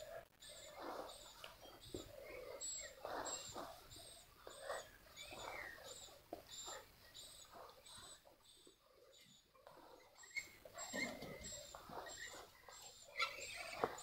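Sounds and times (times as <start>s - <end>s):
faint high chirp: 0.4s - 14.0s.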